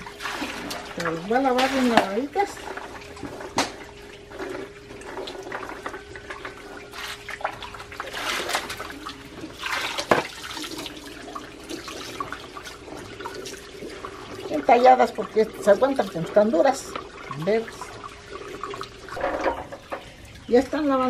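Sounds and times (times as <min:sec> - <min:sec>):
water pouring: 0:00.0 - 0:21.0
water splashing in bucket: 0:00.0 - 0:21.0.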